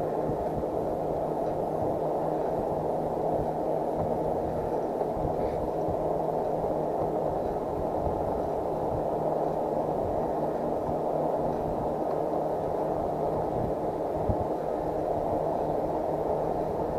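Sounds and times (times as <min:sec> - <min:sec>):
faint steady hum: 0:00.0 - 0:16.9
rushing wind: 0:00.0 - 0:16.9.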